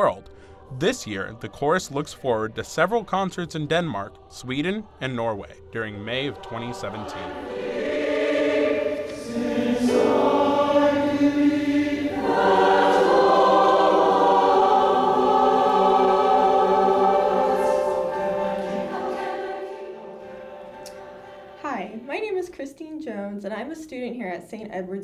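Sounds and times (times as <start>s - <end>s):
mixed choir singing: 0.0s - 22.1s.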